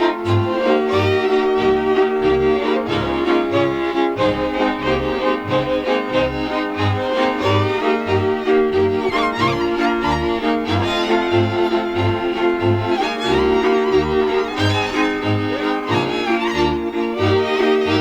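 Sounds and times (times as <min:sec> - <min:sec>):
bass bowing a steady beat: 0:00.0 - 0:18.0
bowed string chords: 0:00.0 - 0:18.0
fiddle melody: 0:00.0 - 0:18.0.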